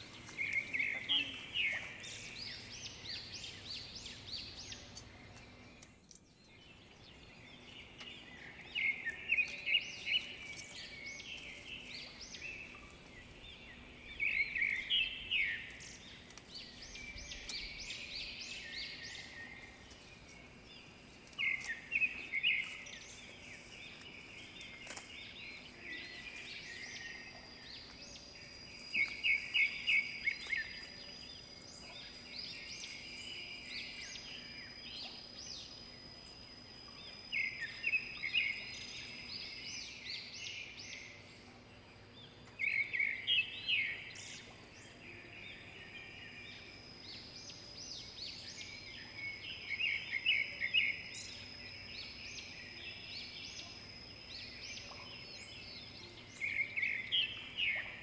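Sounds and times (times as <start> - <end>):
bird chirping: 0.0 - 58.0.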